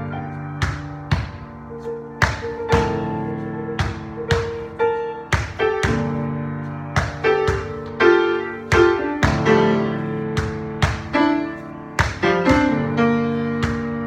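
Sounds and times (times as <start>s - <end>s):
piano chords and notes: 0.0s - 14.0s.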